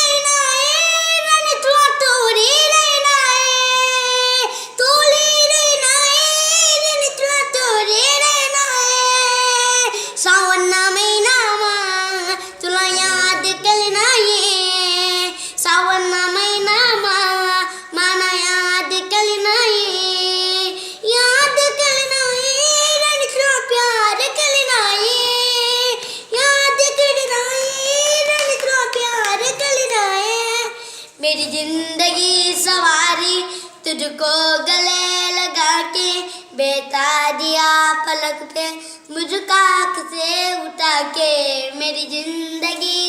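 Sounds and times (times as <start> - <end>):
child singing: 0.0 - 43.0.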